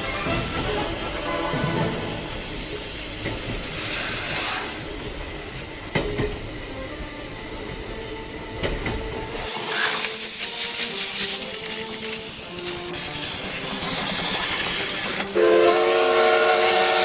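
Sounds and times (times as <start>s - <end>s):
toy train rumbling on track: 0.0s - 17.0s.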